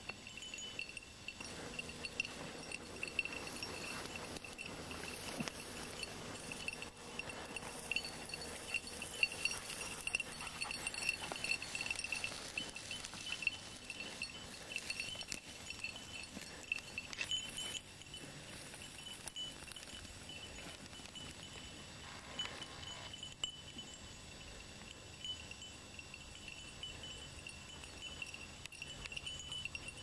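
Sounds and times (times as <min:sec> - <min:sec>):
dog collar bell jingling: 0:00.0 - 0:30.0.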